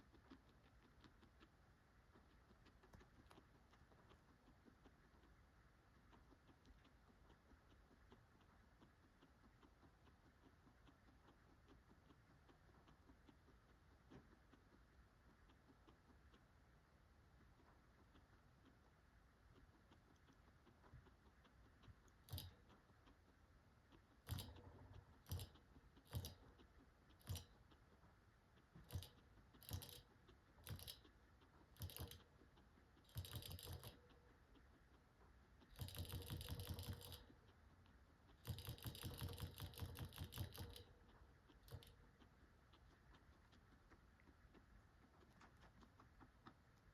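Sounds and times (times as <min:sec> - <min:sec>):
guinea pig crunching pellets: 0:00.0 - 0:46.9.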